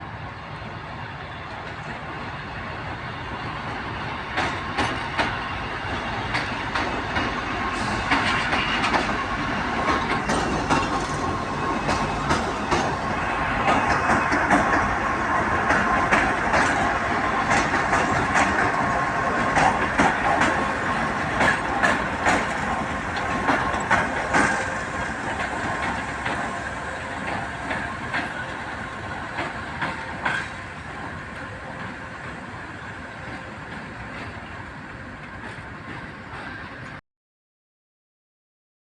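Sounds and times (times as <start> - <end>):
diesel locomotives passing: 0.0 - 37.0.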